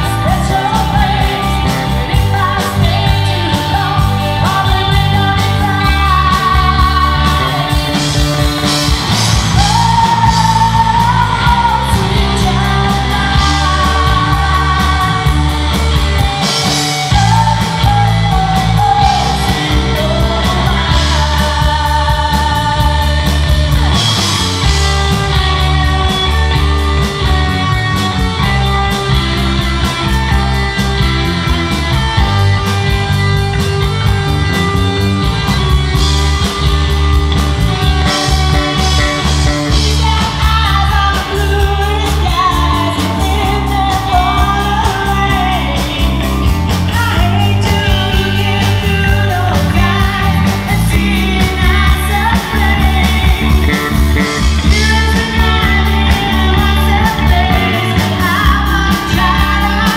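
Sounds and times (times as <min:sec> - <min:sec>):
bass guitar: 0:00.0 - 0:59.9
drums: 0:00.0 - 0:59.9
electric guitars: 0:00.0 - 0:59.9
woman singing lead: 0:00.0 - 0:59.9.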